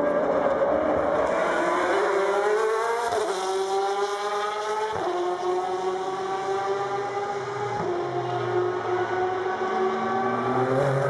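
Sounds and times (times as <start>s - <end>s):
race car engine accelerating: 0.2s - 11.0s.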